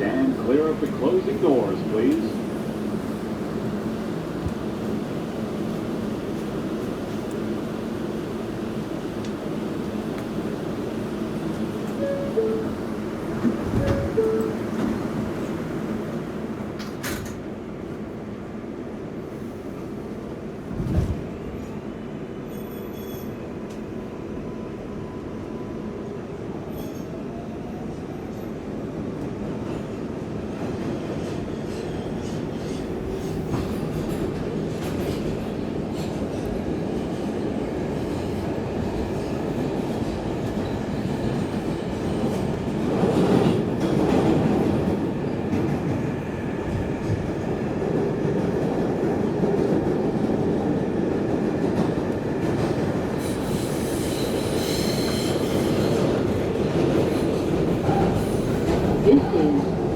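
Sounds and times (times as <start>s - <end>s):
subway wheels rumbling on rail: 0.0s - 59.9s.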